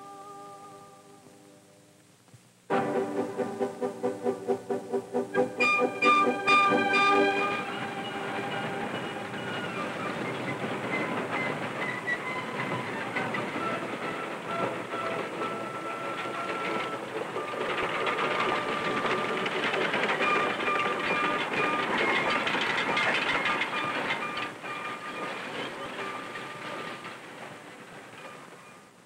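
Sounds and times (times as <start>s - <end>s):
steam train clatter and hiss: 2.7s - 29.0s.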